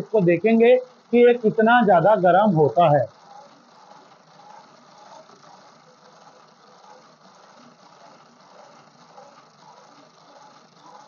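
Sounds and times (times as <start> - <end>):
hand-cranked generator whirring: 0.0 - 11.0.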